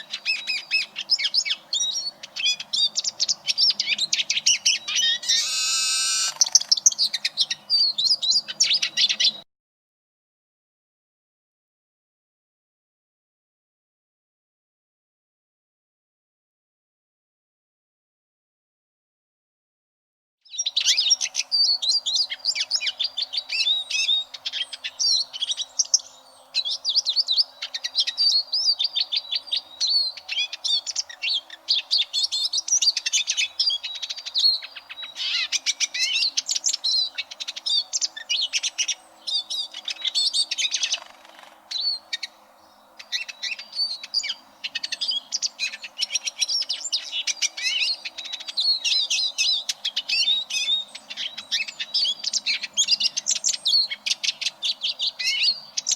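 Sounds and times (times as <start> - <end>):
bird twittering and trilling: 0.0 - 9.4, 20.5 - 55.9.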